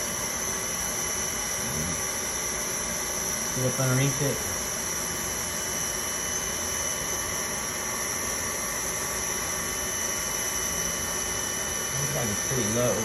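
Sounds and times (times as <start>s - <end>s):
hot-air blower hissing and whining: 0.0s - 13.0s.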